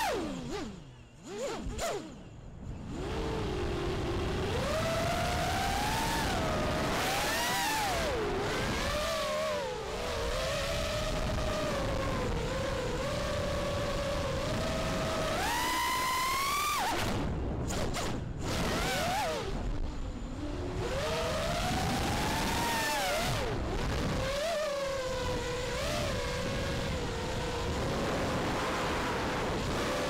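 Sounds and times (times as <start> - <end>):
quadcopter motors whining: 0.0 - 30.0
wind rushing on microphone: 2.2 - 30.0.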